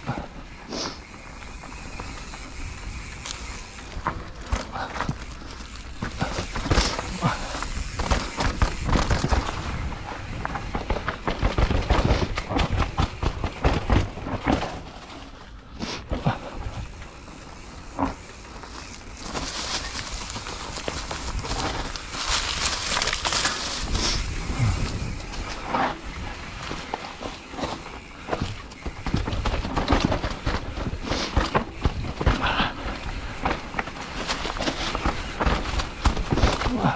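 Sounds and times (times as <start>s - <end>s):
bike rattling over bumps: 0.0s - 36.9s
bike tyres crunching through leaves: 0.0s - 36.9s.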